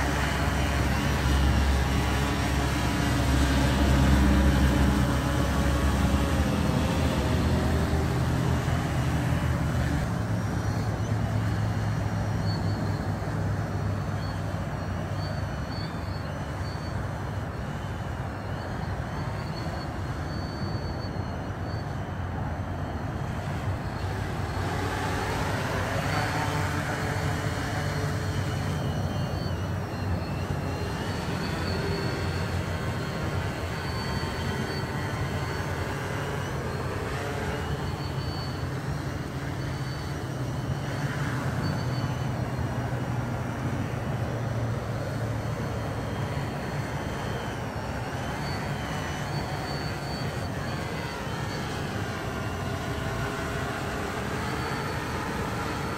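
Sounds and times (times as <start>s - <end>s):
drone buzzing hum: 0.0s - 17.3s, 23.0s - 55.9s.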